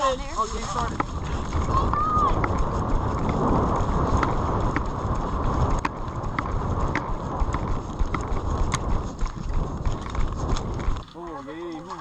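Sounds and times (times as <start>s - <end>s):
brisk footsteps: 0.0s - 12.0s
wind rumbling on microphone: 0.0s - 12.0s.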